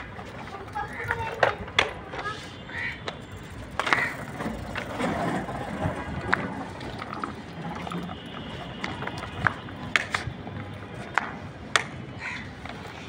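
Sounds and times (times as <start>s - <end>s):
bicycle rolling over rough concrete: 0.0s - 11.2s.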